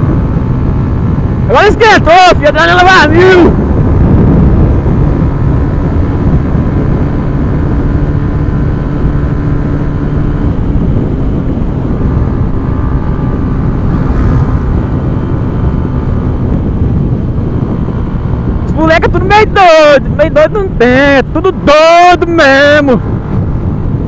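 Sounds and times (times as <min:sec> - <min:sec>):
motorcycle engine at speed: 0:00.0 - 0:24.0
road noise: 0:00.0 - 0:24.0
wind noise: 0:00.0 - 0:24.0.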